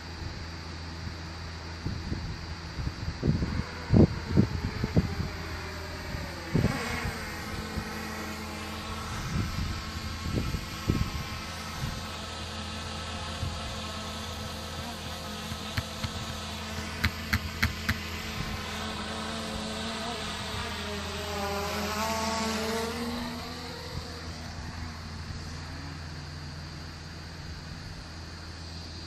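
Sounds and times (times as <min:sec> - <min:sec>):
drone propellers buzzing: 0:00.0 - 0:29.0.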